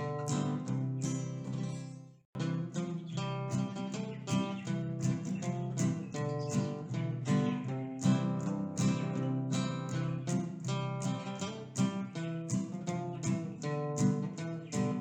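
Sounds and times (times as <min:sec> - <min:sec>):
acoustic guitar picked melody: 0:00.0 - 0:15.0.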